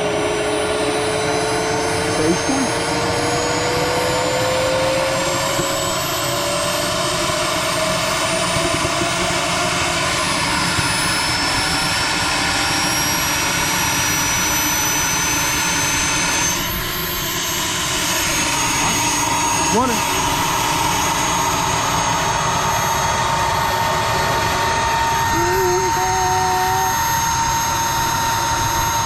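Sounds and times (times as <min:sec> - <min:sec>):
turbine engine whine: 0:00.0 - 0:29.0.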